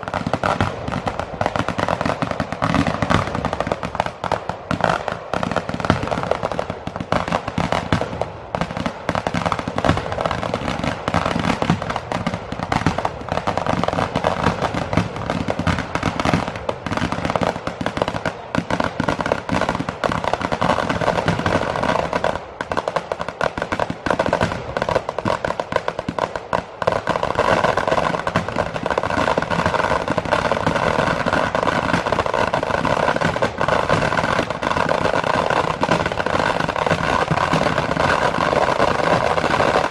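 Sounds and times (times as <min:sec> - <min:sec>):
firecracker bangs and crackling: 0:00.0 - 0:39.9.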